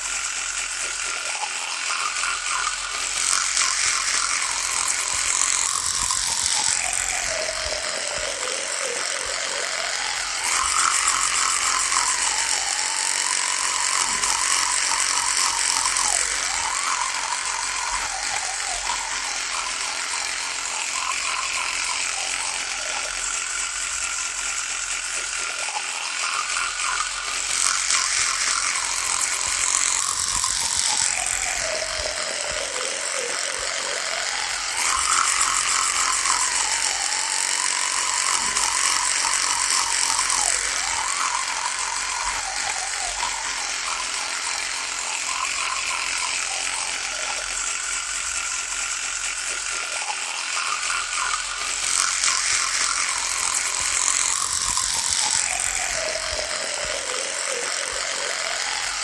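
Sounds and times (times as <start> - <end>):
electric toothbrush buzzing: 0.0 - 59.0.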